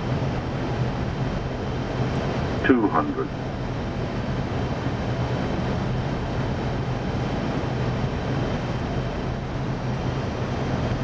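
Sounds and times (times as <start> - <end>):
airflow rush: 0.0 - 11.0
constant low hum: 0.0 - 11.0.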